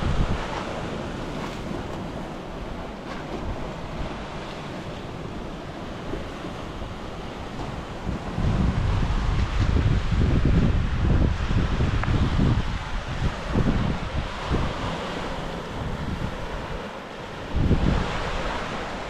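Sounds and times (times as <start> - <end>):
sea waves washing on shore: 0.0 - 19.0
wind buffeting microphone: 0.0 - 19.0.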